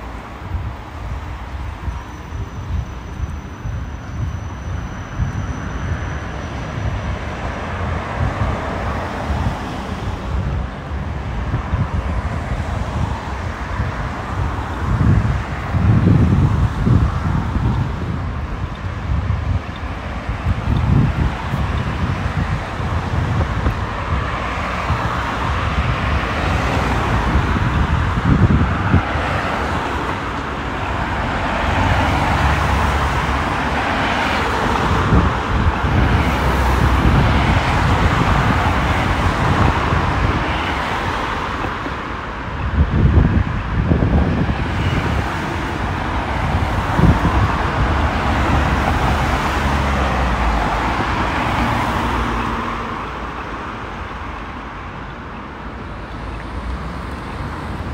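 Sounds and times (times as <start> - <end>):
cars driving past: 0.0 - 57.9.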